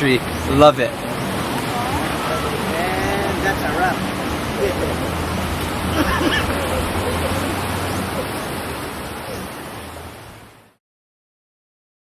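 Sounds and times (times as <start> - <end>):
faint voices: 0.0 - 9.8
rush of falling water: 0.0 - 10.8.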